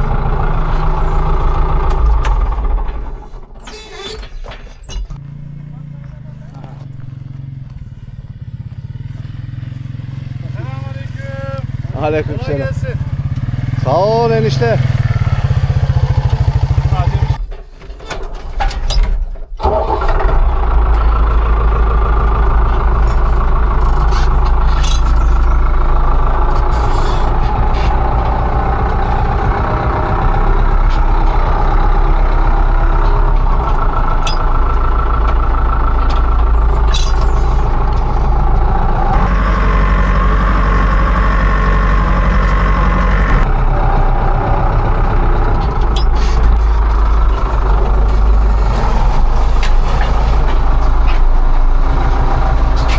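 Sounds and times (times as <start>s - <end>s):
farm machine engine running: 0.0s - 19.0s, 19.6s - 52.9s.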